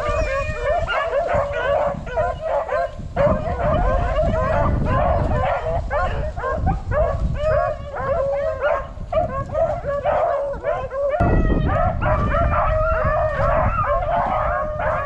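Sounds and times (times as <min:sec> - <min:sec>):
pack of hounds baying and howling: 0:00.0 - 0:15.0.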